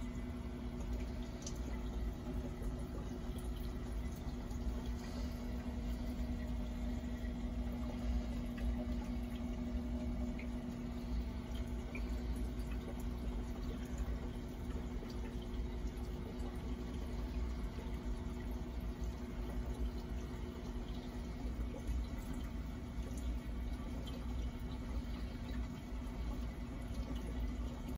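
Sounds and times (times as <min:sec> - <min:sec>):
filter motor hum: 0:00.0 - 0:27.9
water drips: 0:00.0 - 0:27.9
water trickling and bubbling: 0:00.0 - 0:27.9.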